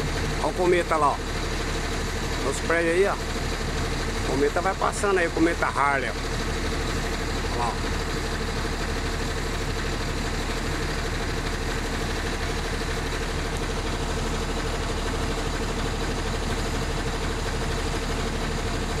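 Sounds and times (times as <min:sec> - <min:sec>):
motor humming: 0:00.0 - 0:19.0.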